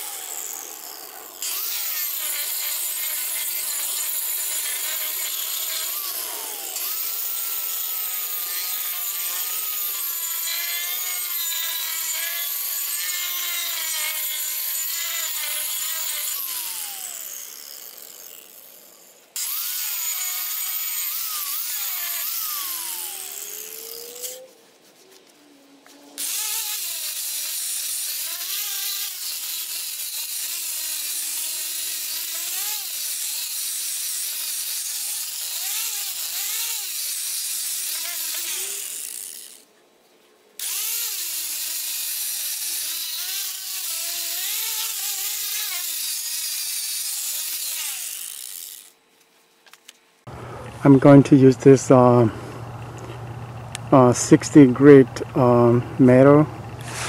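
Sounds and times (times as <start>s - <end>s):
angle grinder grinding wood: 0.0s - 39.7s, 40.6s - 49.1s, 50.3s - 57.0s.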